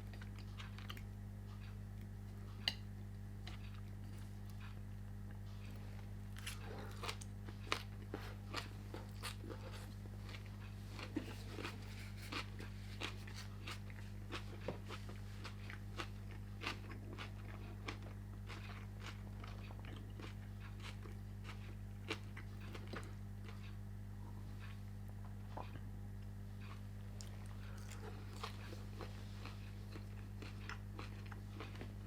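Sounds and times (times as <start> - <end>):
person chewing crunchy food: 0.0 - 23.8, 24.6 - 32.0
low electrical hum: 0.0 - 32.0.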